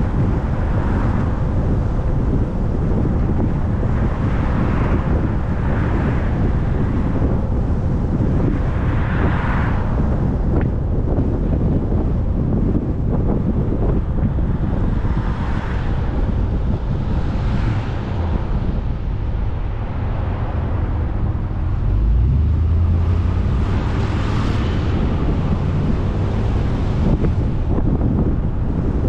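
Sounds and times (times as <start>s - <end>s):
vehicle road and wind noise: 0.0s - 29.0s.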